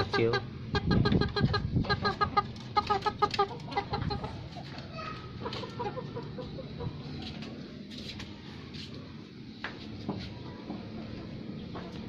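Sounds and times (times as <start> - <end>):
chickens clucking: 0.0 - 8.2, 9.9 - 12.0.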